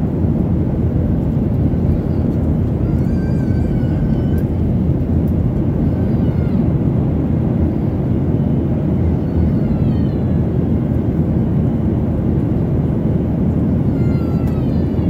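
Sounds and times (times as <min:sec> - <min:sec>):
jet cabin engine rush: 0:00.0 - 0:15.0.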